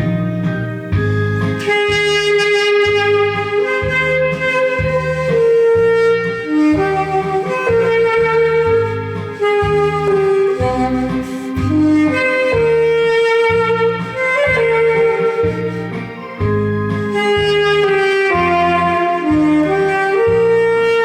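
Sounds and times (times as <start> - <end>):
alto saxophone melody: 0.0 - 21.0
backing track with bass beat: 0.0 - 21.0.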